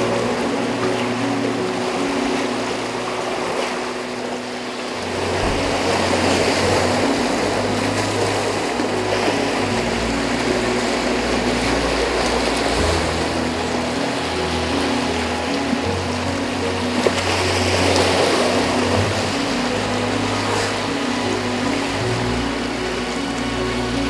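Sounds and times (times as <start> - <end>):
background music low sustained notes: 0.0 - 24.0
river water rushing and splashing: 0.0 - 24.0.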